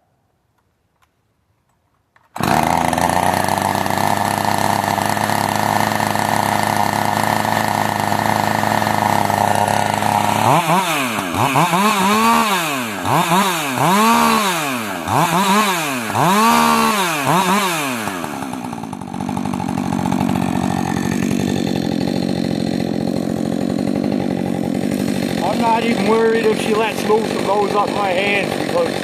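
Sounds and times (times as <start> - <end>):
chainsaw revving and idling: 2.4 - 29.0.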